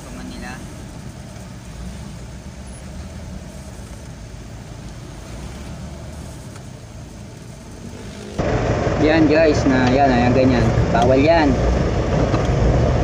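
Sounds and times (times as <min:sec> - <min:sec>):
hiss of vehicles on road: 0:00.0 - 0:13.0
traffic engine rumble: 0:00.0 - 0:13.0.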